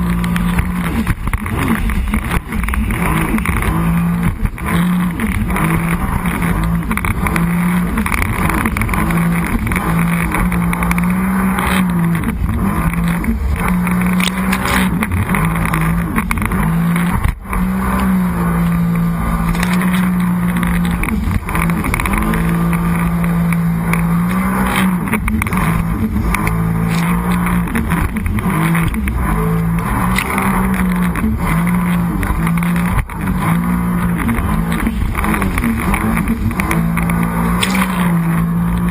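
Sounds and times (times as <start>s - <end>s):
water rushing: 0.0s - 38.9s
watercraft engine running hard: 0.0s - 38.9s.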